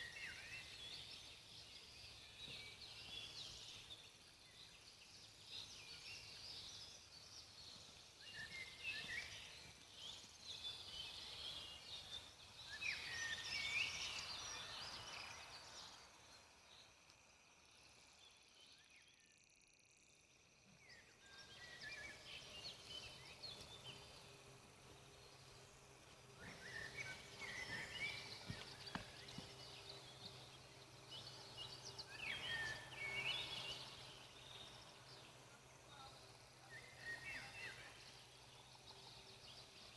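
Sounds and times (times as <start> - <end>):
faint birdsong: 0.0 - 39.9.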